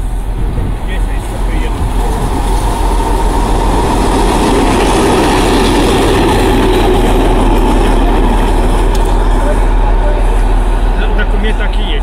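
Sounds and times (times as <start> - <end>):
diesel locomotive engine drone: 0.0 - 12.0
train wheels running noise: 0.0 - 12.0.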